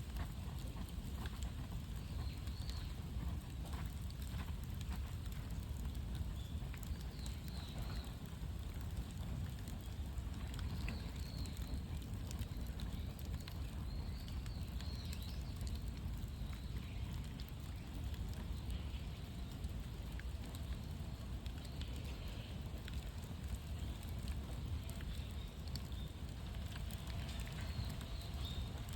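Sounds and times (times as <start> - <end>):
bonfire crackling: 0.0 - 28.9.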